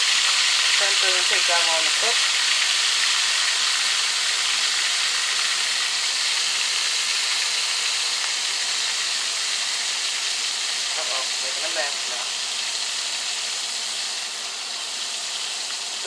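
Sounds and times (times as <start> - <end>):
shrimp sizzling in hot oil: 0.0 - 16.0.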